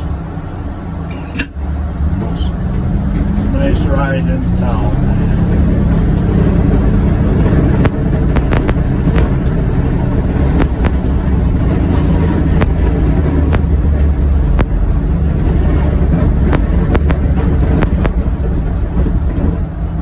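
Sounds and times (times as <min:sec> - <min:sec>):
utility vehicle engine rumble: 0:00.0 - 0:20.0.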